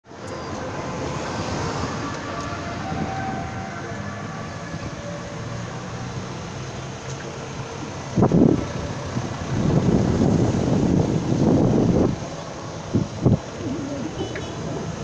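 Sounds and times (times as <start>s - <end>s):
light traffic: 0.0s - 15.0s
road and wind noise on bicycle: 0.0s - 15.0s.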